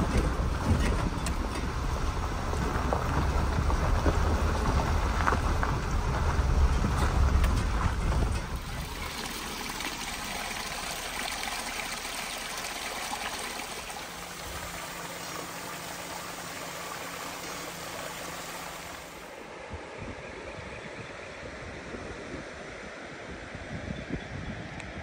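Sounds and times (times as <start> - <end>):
stream trickling and splashing: 0.0 - 20.1.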